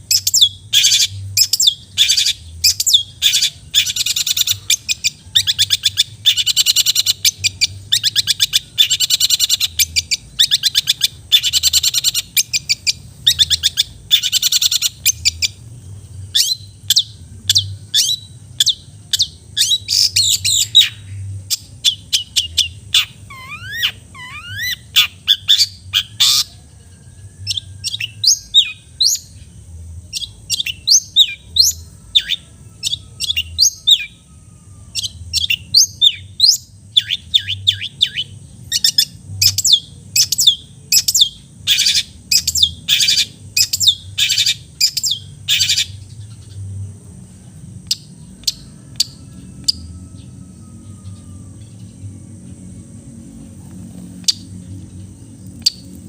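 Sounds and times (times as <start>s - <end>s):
bird singing scratchy chatter: 0.0s - 56.0s.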